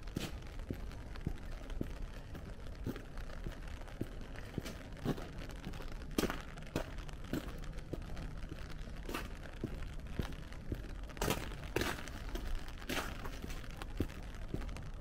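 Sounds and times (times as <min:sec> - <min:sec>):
footsteps crunching: 0:00.0 - 0:15.0
low background noise: 0:00.0 - 0:15.0.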